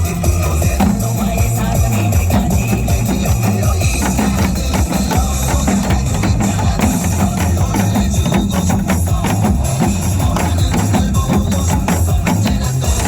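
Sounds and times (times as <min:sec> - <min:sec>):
backing track with bass beat: 0:00.0 - 0:13.0.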